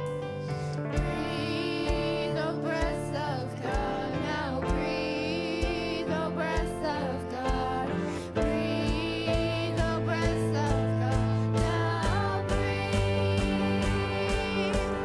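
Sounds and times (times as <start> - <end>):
held keyboard chords: 0.0 - 15.0
person singing melody: 0.4 - 15.0
kick drum beating: 0.8 - 15.0.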